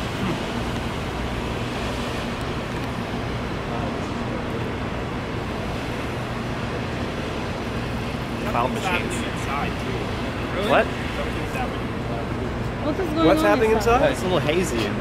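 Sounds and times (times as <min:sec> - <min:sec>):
helium gas rushing from vent: 0:00.0 - 0:12.8.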